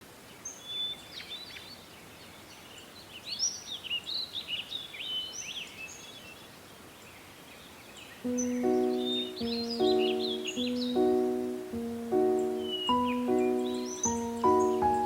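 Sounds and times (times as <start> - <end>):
faint background hiss: 0.0 - 15.0
songbirds singing and chirping: 0.1 - 15.0.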